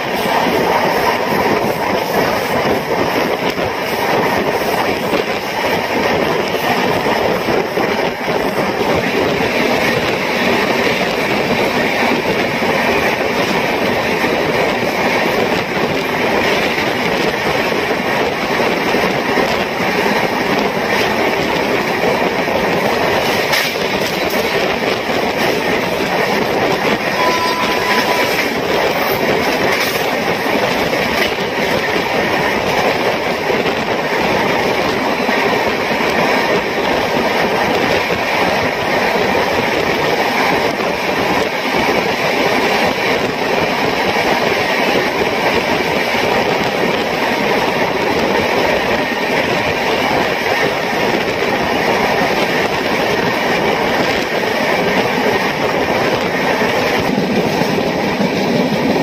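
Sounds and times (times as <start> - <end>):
train wheels rumbling on rails: 0.0 - 59.0
wind noise: 0.0 - 59.0.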